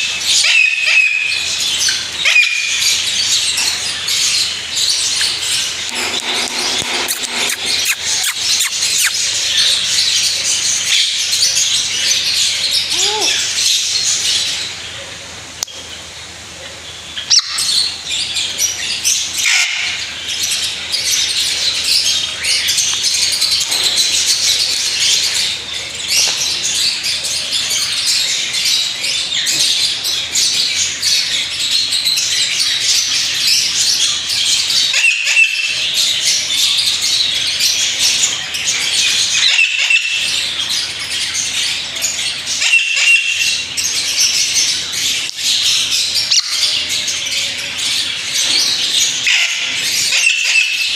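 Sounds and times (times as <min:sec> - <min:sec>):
birds chirping: 0:00.0 - 0:15.0, 0:17.0 - 0:50.9.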